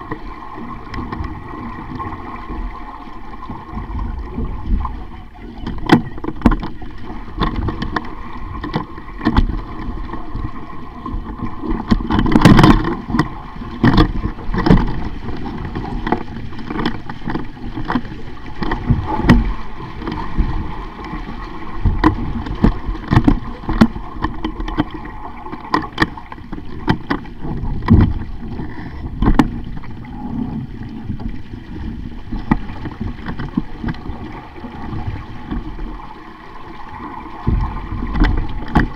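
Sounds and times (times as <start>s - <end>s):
water rushing along hull: 0.0s - 38.9s
boat knocks and clunks: 3.4s - 35.9s, 37.3s - 38.9s.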